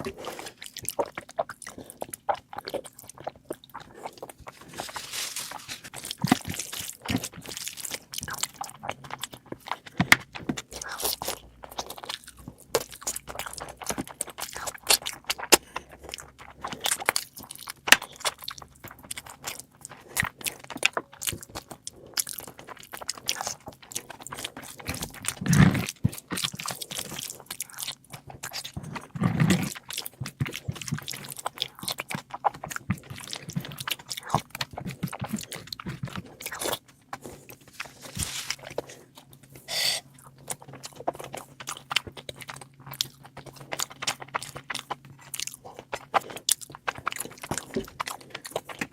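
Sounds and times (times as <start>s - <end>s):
close chewing with crunchy bites: 0.0s - 48.9s.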